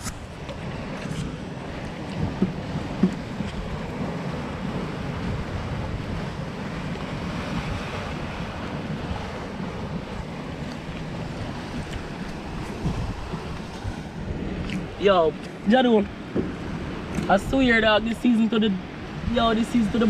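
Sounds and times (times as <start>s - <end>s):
waves breaking on rocks: 0.0s - 20.0s
wind buffeting microphone: 0.0s - 20.0s.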